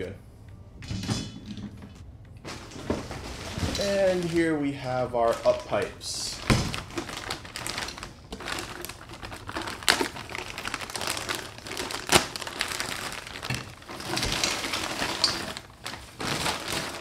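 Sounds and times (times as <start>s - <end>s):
plastic bag crinkling: 2.5s - 17.0s.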